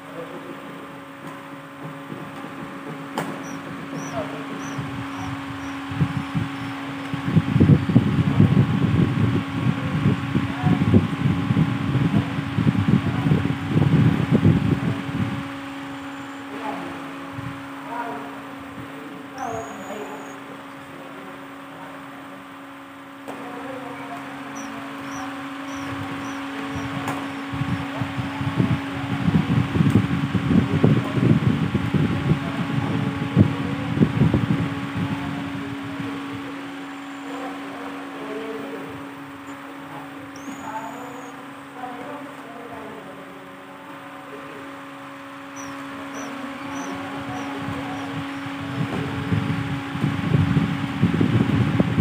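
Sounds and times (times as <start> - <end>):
low rumbling flutter: 0.0 - 52.0
steady mechanical hum: 0.0 - 52.0.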